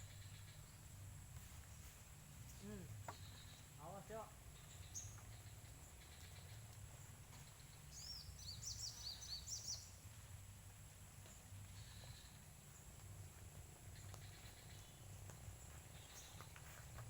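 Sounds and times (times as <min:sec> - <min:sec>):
bird chirping: 0:00.0 - 0:10.4, 0:11.2 - 0:17.0.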